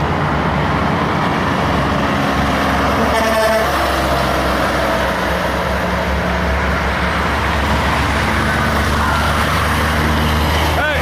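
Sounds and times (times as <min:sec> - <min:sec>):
diesel truck engine passing: 0:00.0 - 0:11.0
traffic road and tyre noise: 0:00.0 - 0:11.0.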